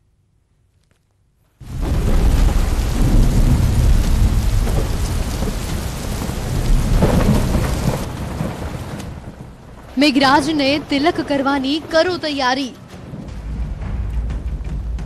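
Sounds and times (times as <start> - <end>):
deep rolling thunder: 1.6 - 15.0
heavy rain: 1.6 - 15.0.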